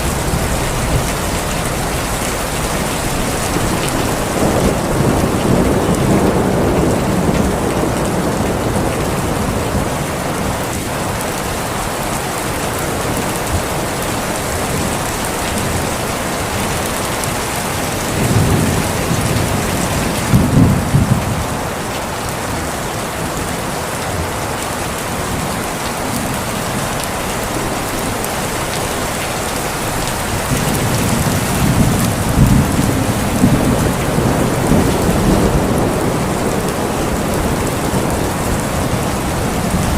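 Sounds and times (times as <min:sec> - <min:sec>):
thunder rumbling: 0:00.0 - 0:24.4, 0:25.0 - 0:39.9
heavy rain: 0:00.0 - 0:39.9.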